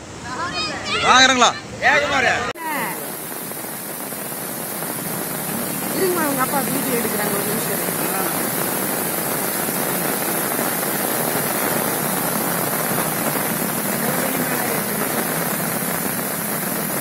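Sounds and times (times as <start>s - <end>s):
stream water rushing: 0.0s - 17.0s
rain on an umbrella: 2.6s - 17.0s.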